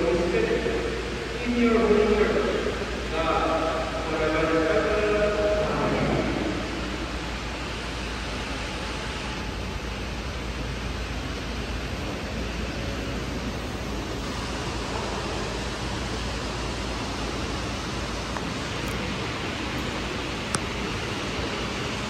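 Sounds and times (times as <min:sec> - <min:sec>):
room noise hiss: 0:00.0 - 0:22.0.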